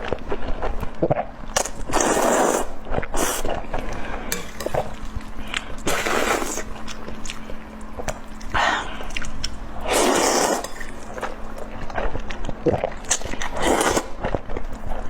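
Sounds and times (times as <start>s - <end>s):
person chewing: 0.3s - 15.0s.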